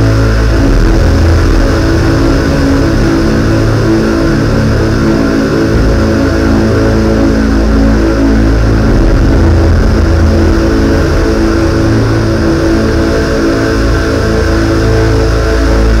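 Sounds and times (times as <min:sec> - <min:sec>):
electronic synthesizer music: 0:00.0 - 0:16.0
loud bass-heavy synth drone: 0:00.0 - 0:16.0
sustained synth tones: 0:00.0 - 0:16.0.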